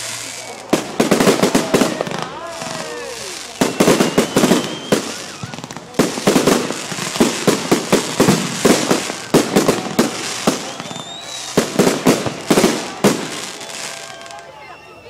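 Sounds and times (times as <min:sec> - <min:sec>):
fireworks bangs and crackling: 0:00.0 - 0:14.6
rising firework whistle: 0:00.0 - 0:15.0.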